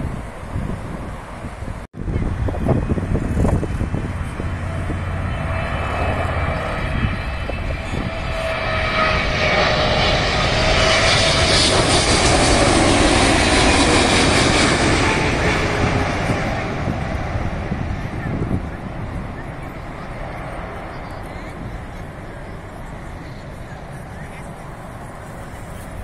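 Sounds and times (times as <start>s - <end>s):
jet airliner roar passing overhead: 0.0s - 26.0s.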